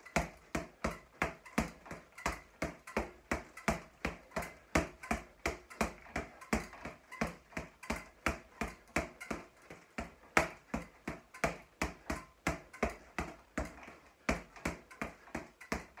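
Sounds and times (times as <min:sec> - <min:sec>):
boxing gloves punching a speed ball: 0:00.0 - 0:16.0.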